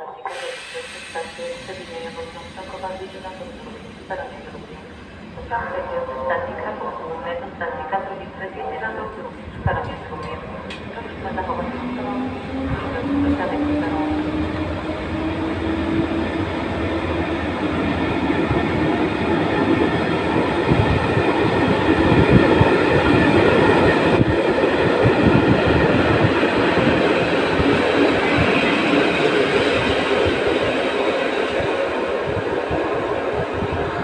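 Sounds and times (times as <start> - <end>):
electric locomotive whine: 0.0 - 34.0.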